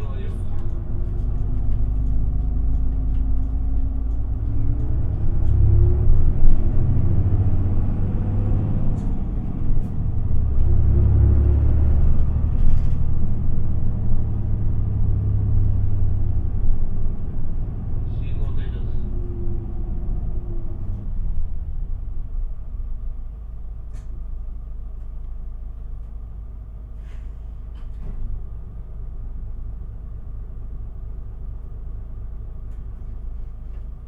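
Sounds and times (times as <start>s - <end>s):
bus diesel engine rumbling: 0.0s - 34.0s.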